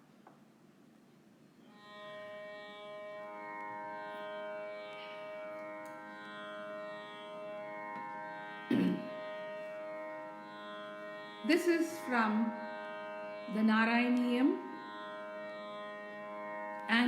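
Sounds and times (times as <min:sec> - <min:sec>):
tanpura drone: 0:01.6 - 0:17.0.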